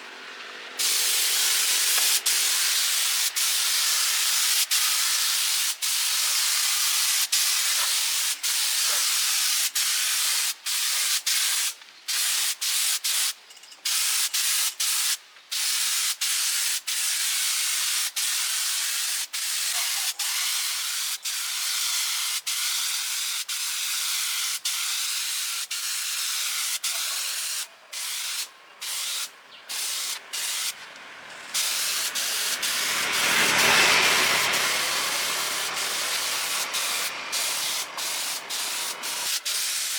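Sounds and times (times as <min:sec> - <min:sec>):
spray gun hissing: 0:00.8 - 0:13.3, 0:13.9 - 0:30.8, 0:31.5 - 0:39.9.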